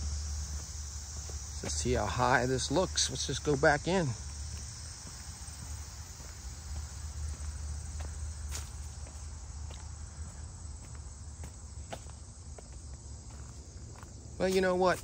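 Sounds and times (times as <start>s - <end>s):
footsteps on dirt path: 0.0s - 15.0s
high-pitched insect chorus: 0.0s - 15.0s.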